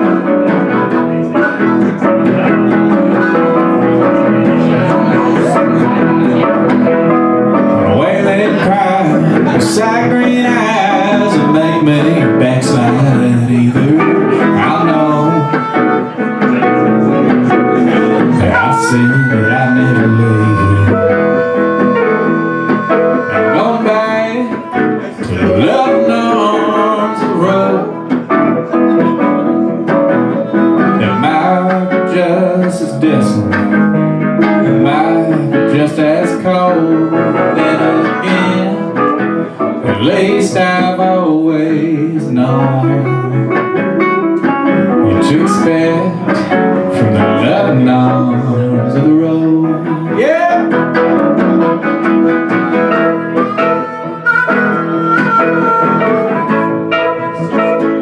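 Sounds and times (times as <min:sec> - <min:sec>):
harmonica sliding between notes: 0:00.0 - 0:41.0, 0:50.4 - 0:58.0
country band playing: 0:00.0 - 0:58.0.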